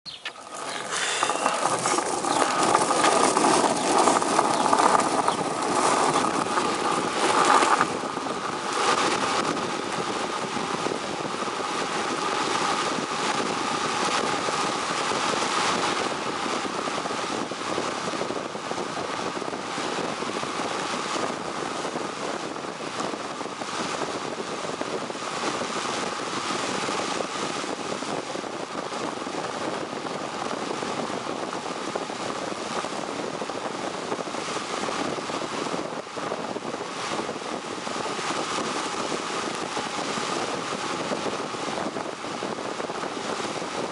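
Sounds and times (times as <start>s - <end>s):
wheels rolling on asphalt: 0.1s - 43.9s
wind rushing over microphone: 0.1s - 43.9s.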